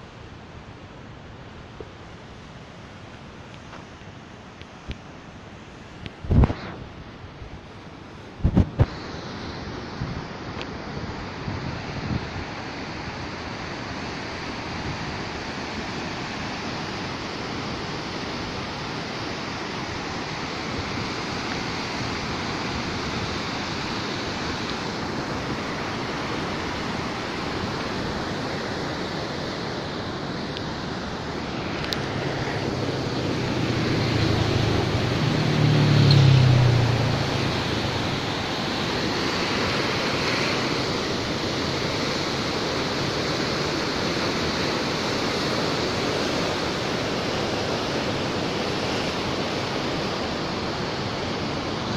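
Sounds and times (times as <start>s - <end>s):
river rushing: 0.0s - 51.9s.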